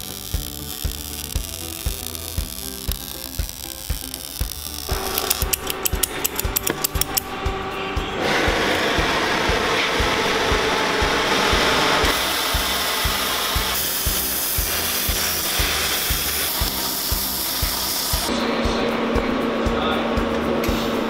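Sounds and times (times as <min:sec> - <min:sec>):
welding torch flame hissing: 0:00.0 - 0:07.3, 0:08.2 - 0:18.3
background music with beat: 0:00.0 - 0:21.0.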